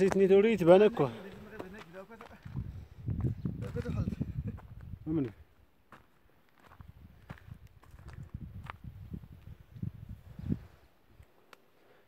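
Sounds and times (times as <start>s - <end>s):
footsteps on dirt path: 0.0s - 11.5s.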